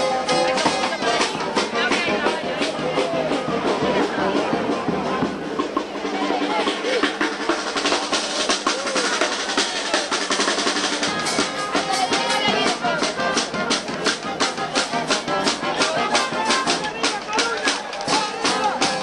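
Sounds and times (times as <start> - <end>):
drums beating fast rhythm: 0.0 - 19.0.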